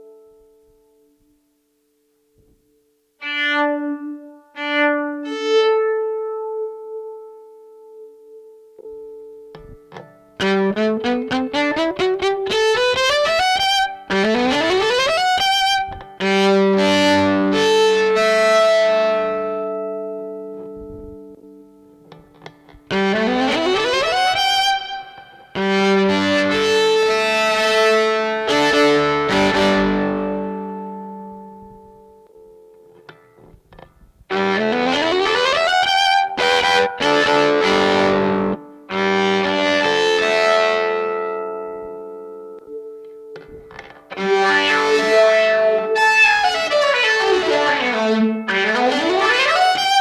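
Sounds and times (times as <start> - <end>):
electric violin notes ringing: 3.2 - 50.0.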